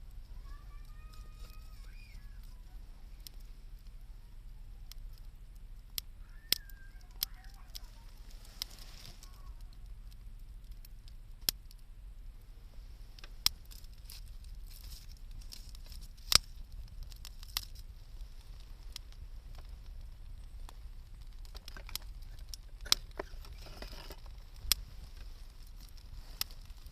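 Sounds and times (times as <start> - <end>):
campfire crackling and popping: 0.0 - 26.9
low steady rumble: 0.0 - 26.9.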